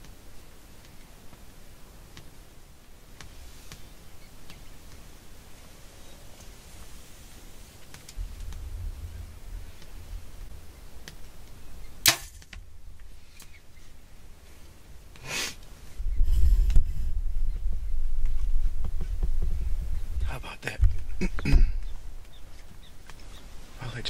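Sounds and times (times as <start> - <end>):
soft noise: 0.1 - 24.0.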